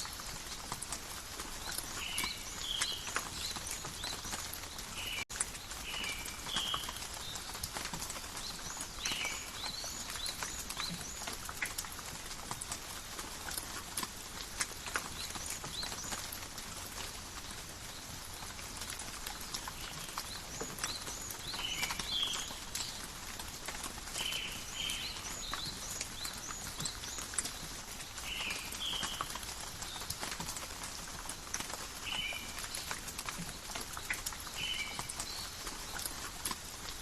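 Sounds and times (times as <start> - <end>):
light rain falling: 0.0 - 37.0.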